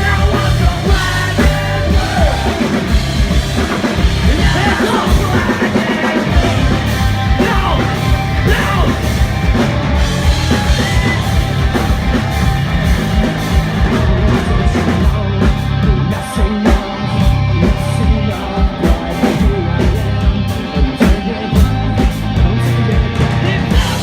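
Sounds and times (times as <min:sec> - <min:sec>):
bass guitar: 0:00.0 - 0:24.0
distorted electric guitars: 0:00.0 - 0:24.0
drum kit pounding: 0:00.0 - 0:24.0.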